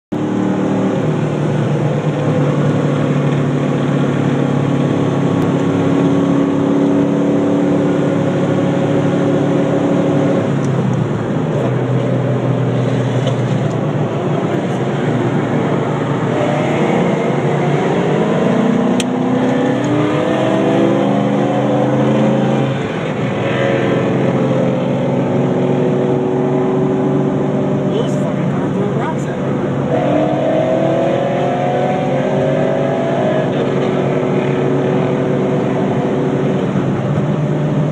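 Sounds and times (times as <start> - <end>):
car engines at hard throttle: 0.1 - 37.9.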